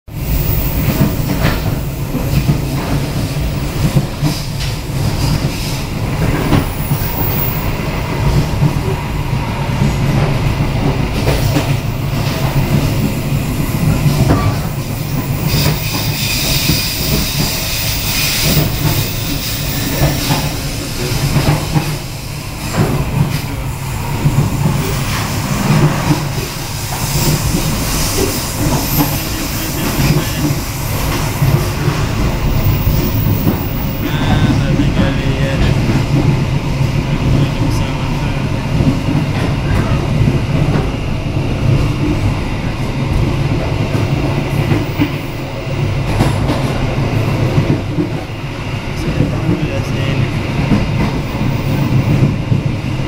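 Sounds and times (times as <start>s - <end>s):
train wheels rumbling on rails: 0.1s - 53.0s.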